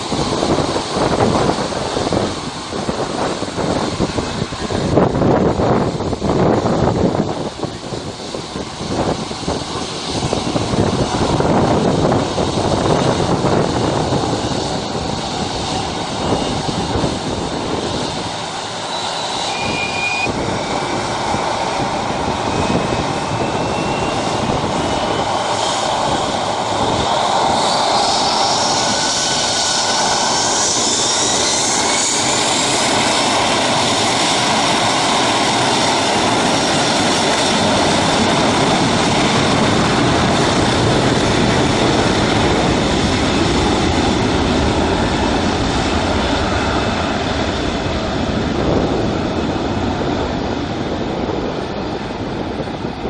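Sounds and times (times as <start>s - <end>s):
jet engines spooling up: 0.0s - 53.0s.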